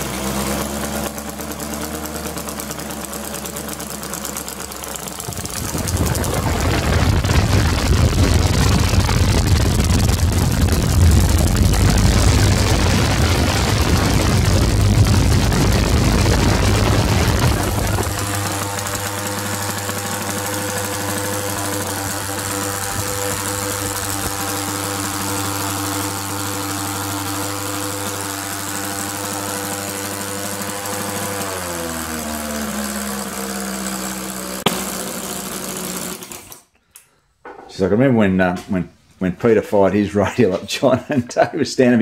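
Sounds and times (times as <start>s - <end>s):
model engine driving propeller: 0.0s - 36.6s.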